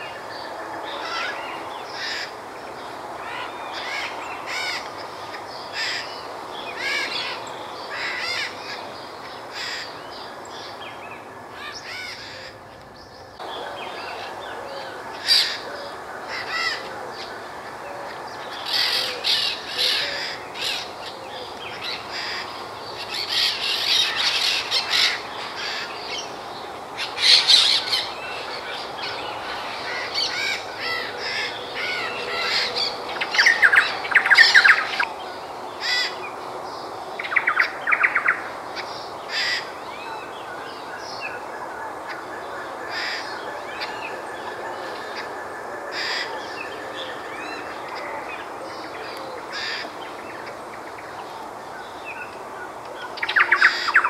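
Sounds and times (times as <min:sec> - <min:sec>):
steady background hiss: 0:00.0 - 0:54.0
wild birds calling: 0:00.0 - 0:54.0.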